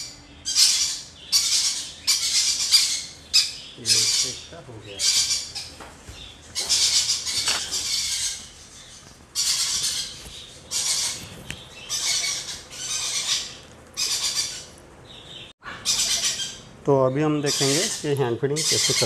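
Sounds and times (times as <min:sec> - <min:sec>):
parrot chicks squawking: 0:00.0 - 0:19.0.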